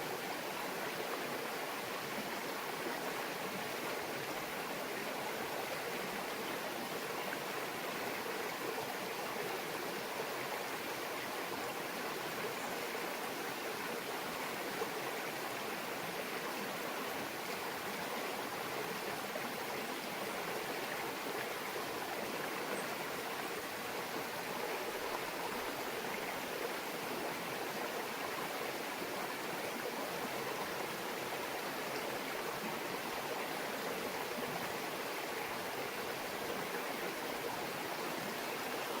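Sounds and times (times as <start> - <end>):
stream babbling over rocks: 0.0 - 39.0.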